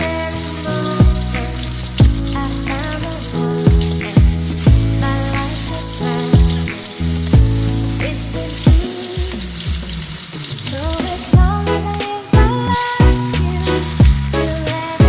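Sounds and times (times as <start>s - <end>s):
background music with steady beat: 0.0s - 15.0s
food sizzling in a pan: 0.0s - 15.0s.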